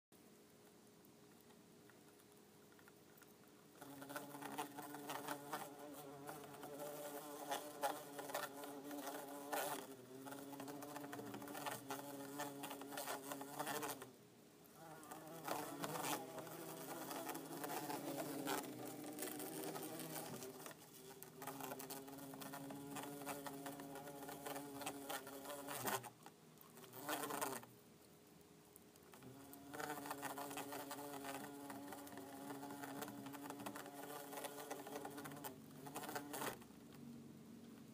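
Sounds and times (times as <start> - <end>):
bumblebees buzzing: 3.7 - 27.7, 29.1 - 36.7.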